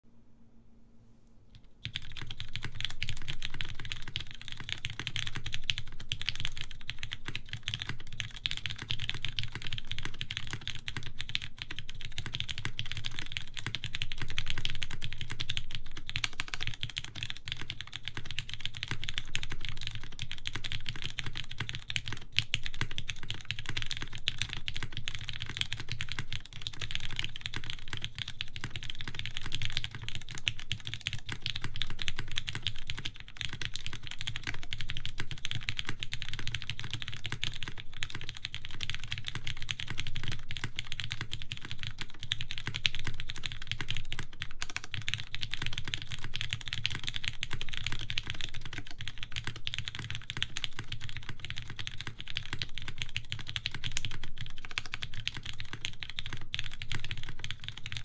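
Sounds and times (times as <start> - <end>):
mechanical keyboard typing: 1.6 - 58.0.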